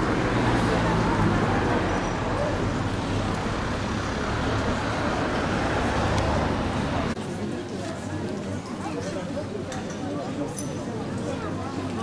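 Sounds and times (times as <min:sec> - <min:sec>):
vehicle and road noise: 0:00.0 - 0:10.1.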